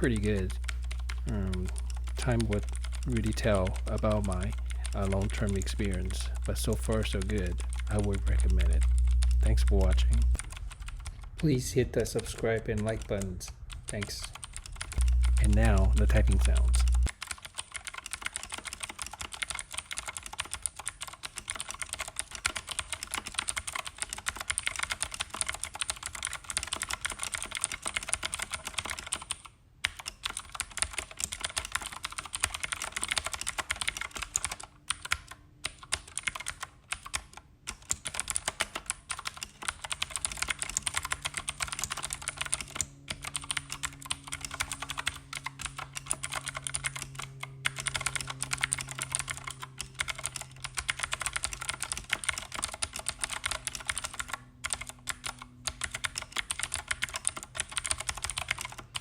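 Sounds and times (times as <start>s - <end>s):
clicky mechanical keyboard typing: 0.0s - 11.5s, 12.2s - 59.0s.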